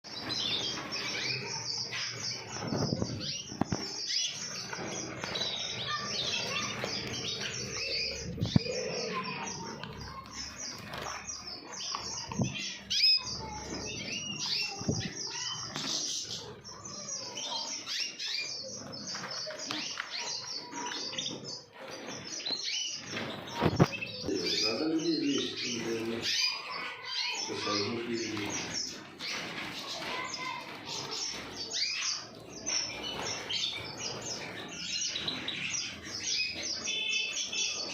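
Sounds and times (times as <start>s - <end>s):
canaries chirping: 0.0s - 37.9s.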